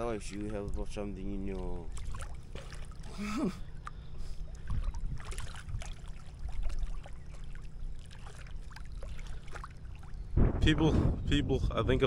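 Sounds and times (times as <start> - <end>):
seawater sloshing and splashing: 0.0 - 10.4
steady low rumble: 0.0 - 12.0.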